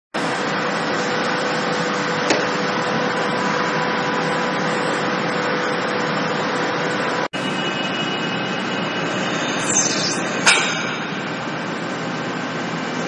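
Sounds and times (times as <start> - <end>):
industrial machinery humming: 0.2 - 13.0.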